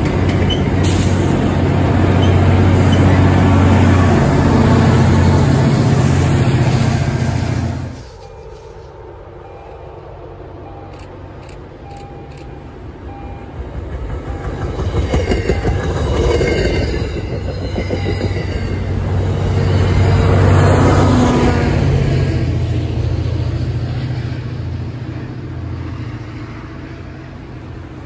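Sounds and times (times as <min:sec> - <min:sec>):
train passing on track: 0:00.0 - 0:28.0.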